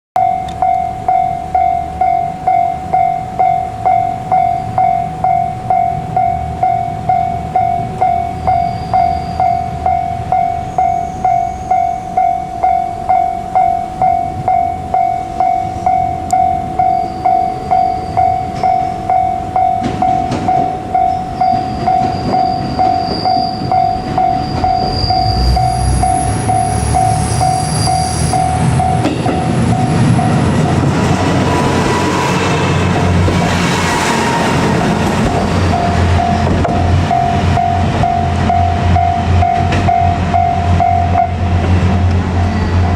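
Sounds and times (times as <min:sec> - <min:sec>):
diesel railcar engine and wheels: 0:00.2 - 0:42.9
level crossing warning bell: 0:00.2 - 0:42.9
high wheel squeals: 0:00.4 - 0:42.9.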